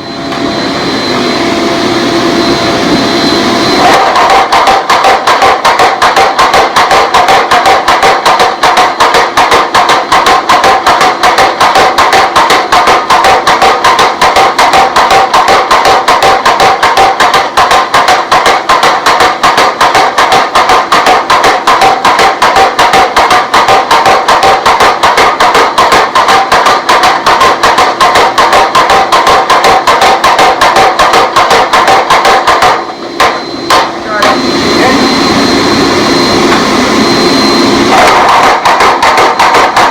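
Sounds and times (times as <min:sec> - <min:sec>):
power hammer pounding hot steel: 0:00.0 - 0:39.9.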